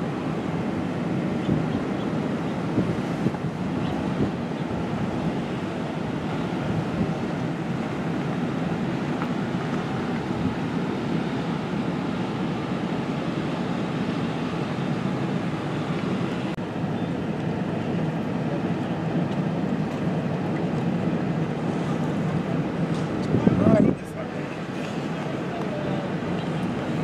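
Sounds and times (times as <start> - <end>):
road and wind noise inside car: 0.0 - 27.0.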